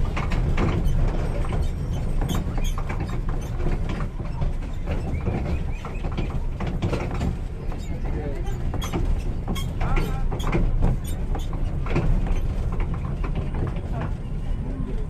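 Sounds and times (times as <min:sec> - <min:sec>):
small train rumbling on track: 0:00.0 - 0:15.0
wheels clanking and rattling: 0:00.0 - 0:15.0.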